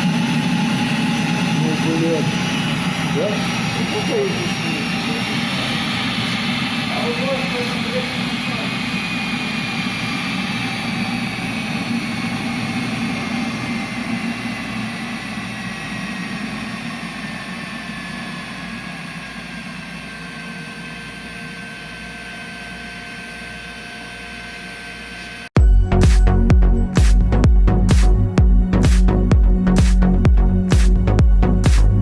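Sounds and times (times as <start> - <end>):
heater blower whining: 0.0 - 32.0.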